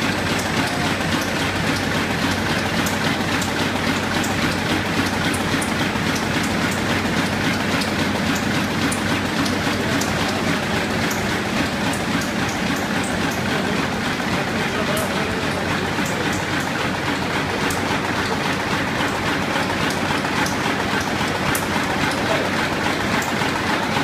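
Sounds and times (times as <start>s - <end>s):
low motor hum: 0.0s - 24.0s
machine clattering: 0.0s - 24.0s.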